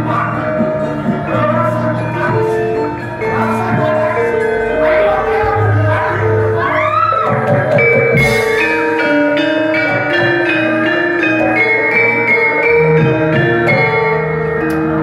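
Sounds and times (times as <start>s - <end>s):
gamelan ensemble playing: 0.0s - 15.0s.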